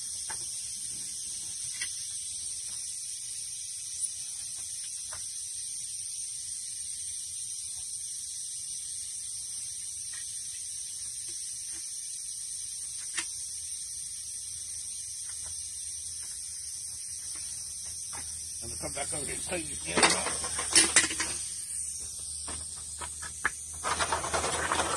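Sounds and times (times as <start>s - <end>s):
steady high hiss: 0.0s - 24.9s.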